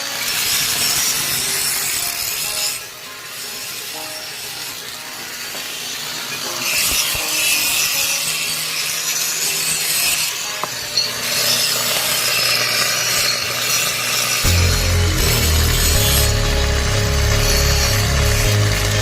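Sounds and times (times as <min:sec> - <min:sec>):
power tool grinding steel: 0:00.0 - 0:19.0.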